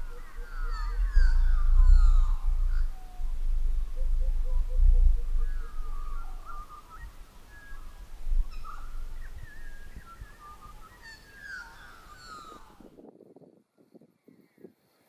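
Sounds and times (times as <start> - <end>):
birds calling and warbling: 0.0 - 12.9
wind rumble on microphone: 0.0 - 15.0.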